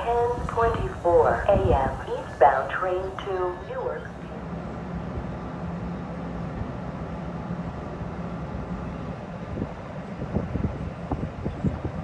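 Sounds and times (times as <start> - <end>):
train rumbling and humming: 0.0 - 12.0.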